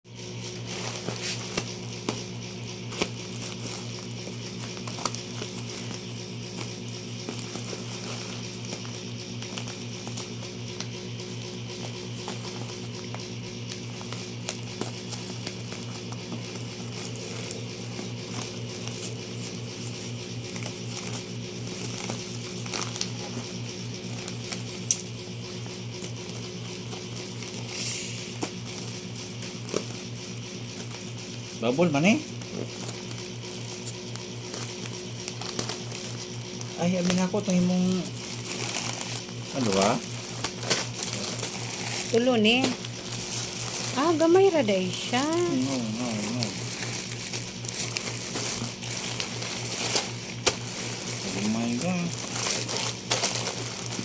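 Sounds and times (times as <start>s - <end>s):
electrical hum: 0.1s - 54.0s
plastic packaging crinkling: 0.2s - 54.0s.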